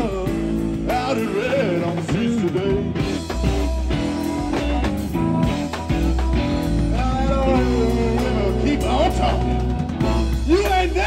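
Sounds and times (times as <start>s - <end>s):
blues-rock band playing: 0.0s - 11.0s
harmonica: 0.0s - 11.0s.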